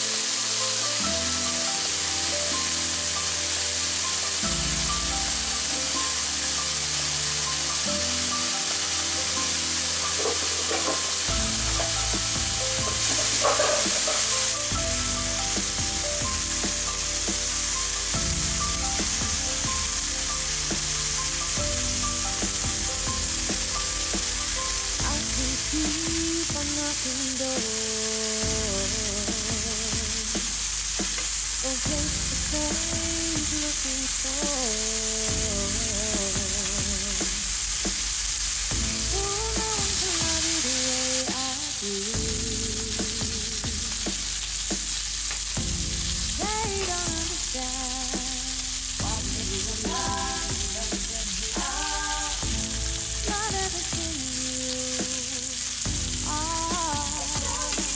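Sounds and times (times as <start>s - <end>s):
bacon sizzling in a frying pan: 0.0s - 57.9s.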